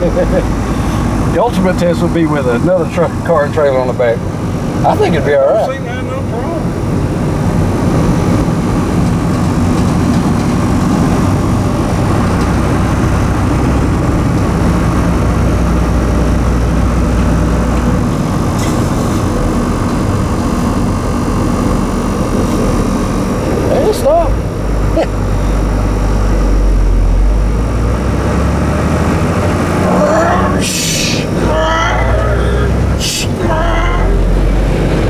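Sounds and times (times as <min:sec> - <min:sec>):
deep low drone: 0:00.0 - 0:04.9, 0:06.6 - 0:35.0
truck engine running: 0:00.0 - 0:35.0.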